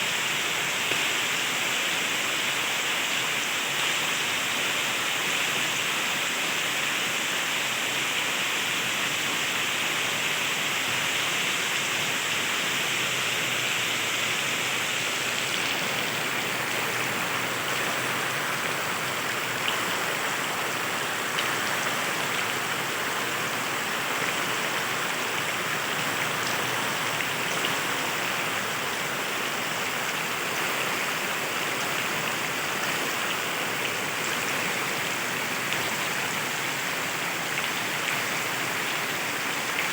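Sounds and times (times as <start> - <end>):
heavy rain falling: 2.4 - 39.9.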